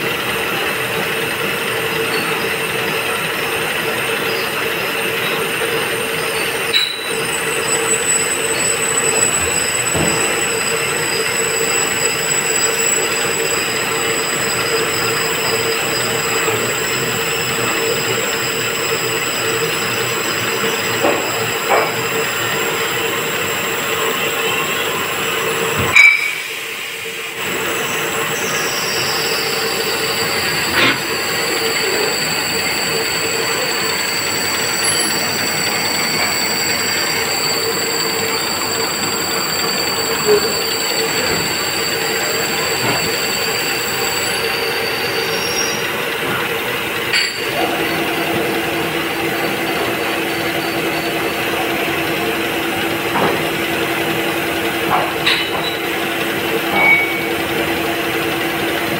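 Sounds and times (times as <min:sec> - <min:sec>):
machine whine with high tones: 0:00.0 - 0:58.9.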